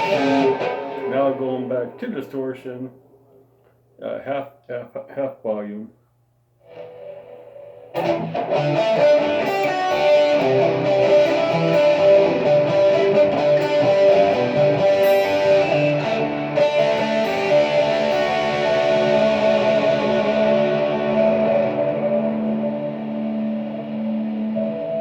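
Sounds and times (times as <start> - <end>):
distorted electric guitar chords: 0.0 - 2.6, 6.7 - 25.0.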